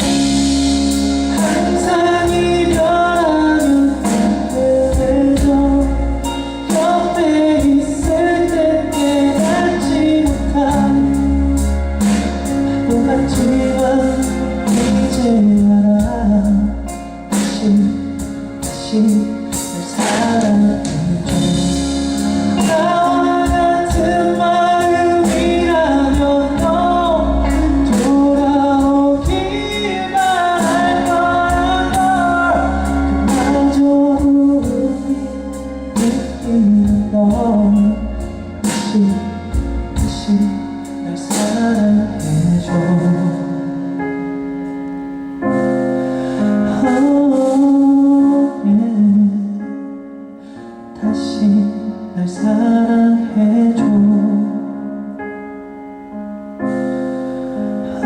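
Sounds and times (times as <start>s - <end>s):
wordless sung vocals: 0.0s - 44.0s, 46.1s - 49.6s
live pop ballad band: 0.0s - 58.0s.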